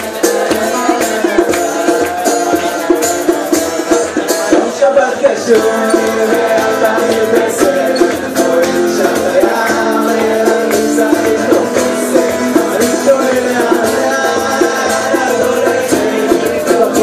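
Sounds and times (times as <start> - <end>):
light percussion beat: 0.0 - 17.0
person singing: 0.0 - 17.0
strummed acoustic guitars: 0.0 - 17.0.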